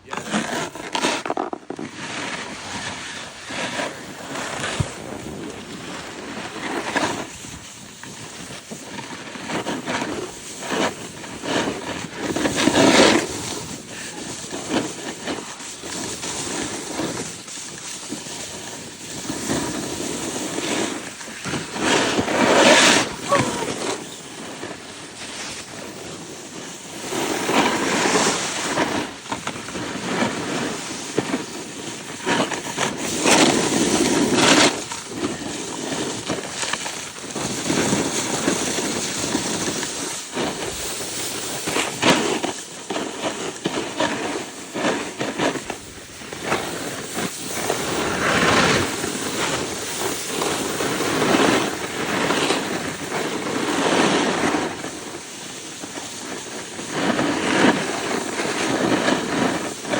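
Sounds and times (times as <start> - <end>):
snowboard scraping on snow: 0.0 - 59.9.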